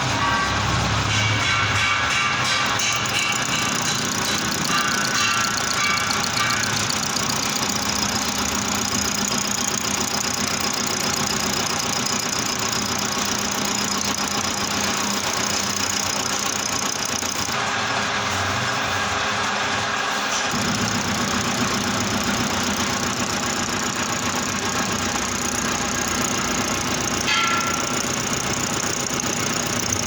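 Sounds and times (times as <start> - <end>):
metal lathe running: 0.0 - 30.0.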